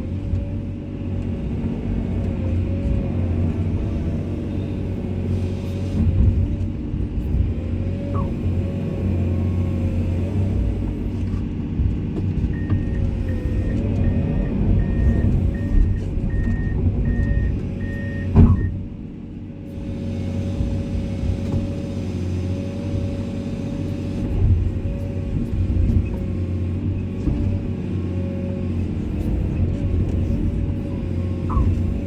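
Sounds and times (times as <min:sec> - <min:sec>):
excavator engine rumbling: 0:00.0 - 0:32.0.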